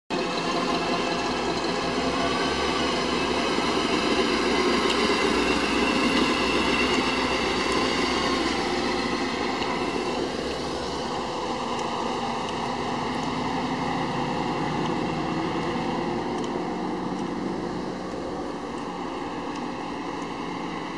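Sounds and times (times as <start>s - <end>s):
car engines and exhausts running: 0.1s - 20.9s
cars driving slowly past: 0.1s - 20.9s.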